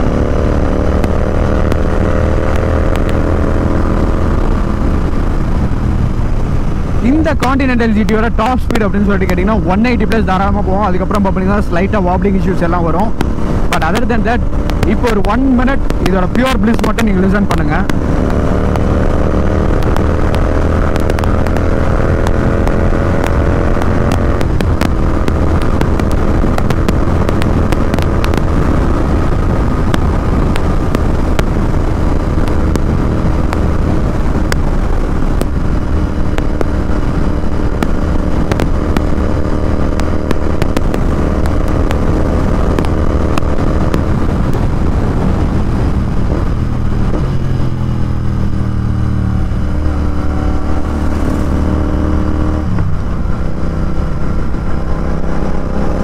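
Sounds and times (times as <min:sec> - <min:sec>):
motorcycle engine at road speed: 0:00.0 - 0:56.0.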